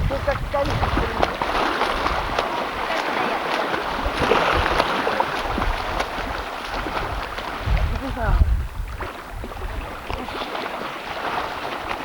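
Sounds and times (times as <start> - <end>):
seawater splashing and lapping: 0.0 - 12.0.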